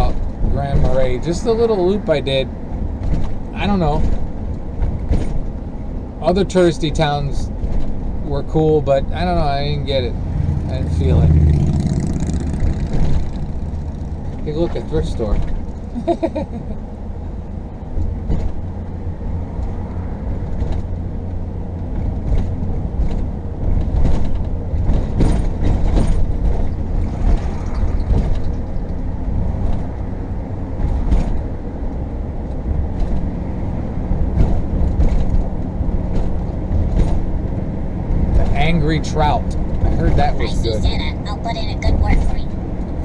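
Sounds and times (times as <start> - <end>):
vehicle engine and tyres rumbling: 0.0 - 43.0.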